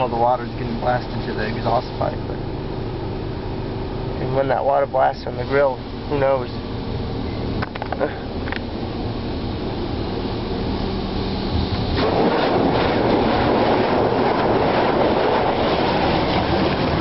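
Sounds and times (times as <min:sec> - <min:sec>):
steady low hum: 0:00.0 - 0:17.0
water jets blasting against vehicle: 0:00.0 - 0:17.0.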